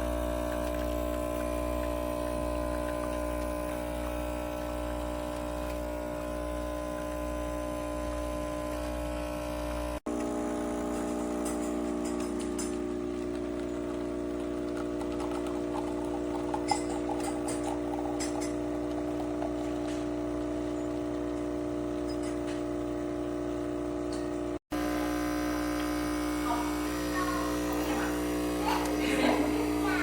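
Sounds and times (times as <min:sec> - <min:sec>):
espresso machine pump buzzing: 0:00.0 - 0:30.0.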